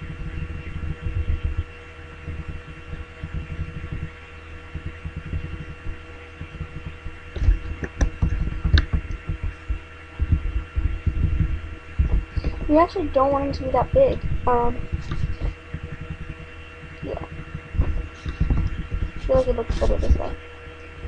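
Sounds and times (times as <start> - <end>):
electrical hum: 0.0 - 21.0
low thumping rumble: 0.0 - 21.0.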